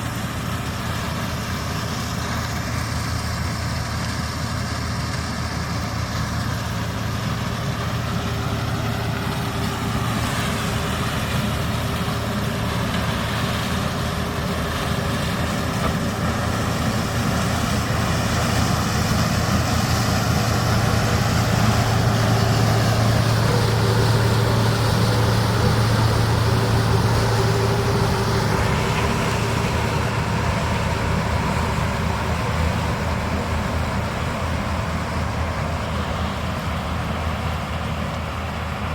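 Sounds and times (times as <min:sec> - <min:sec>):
diesel farm machinery running: 0:00.0 - 0:38.9.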